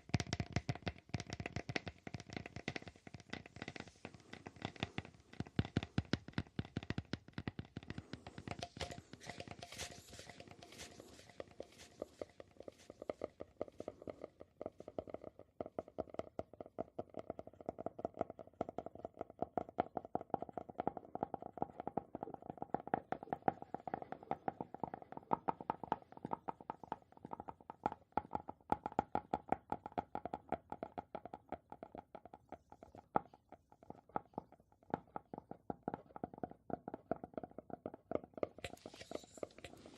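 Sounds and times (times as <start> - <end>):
rapid tapping on objects: 0.0 - 39.9.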